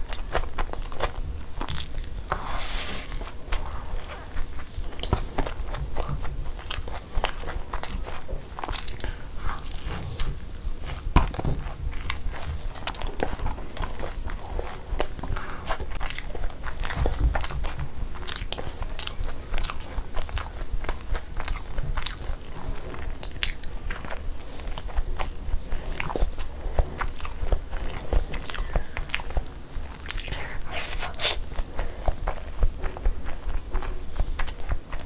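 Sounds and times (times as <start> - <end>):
chewing with wet mouth clicks: 0.0 - 2.4, 3.2 - 35.0.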